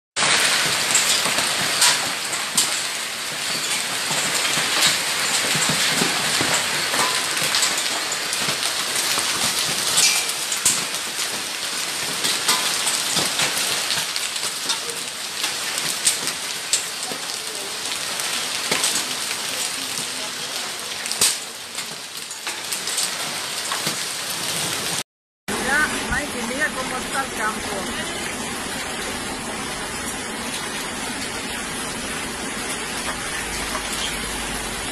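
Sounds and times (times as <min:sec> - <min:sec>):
hailstones striking surfaces: 0:00.2 - 0:25.0, 0:25.8 - 0:34.9
hail and rain pouring: 0:00.2 - 0:34.9.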